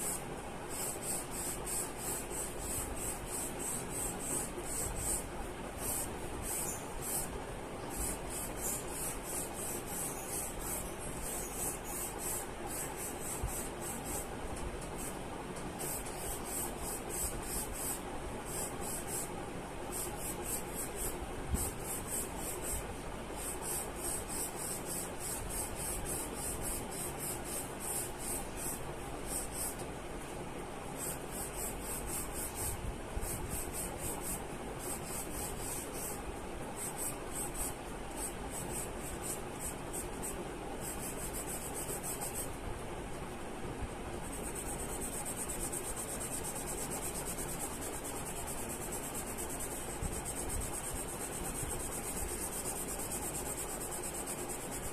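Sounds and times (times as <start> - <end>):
charcoal pencil scratching on paper: 0.0 - 7.3, 7.9 - 15.2, 15.8 - 19.3, 19.9 - 29.8, 31.0 - 42.5, 44.3 - 54.9
crickets chirping: 0.0 - 7.3, 7.9 - 14.3, 15.8 - 29.8, 31.0 - 42.5, 44.3 - 54.9.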